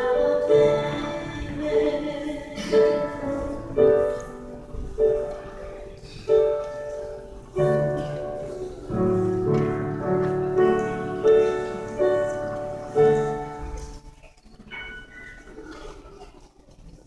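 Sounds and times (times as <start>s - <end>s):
piano chords: 0.0s - 16.1s.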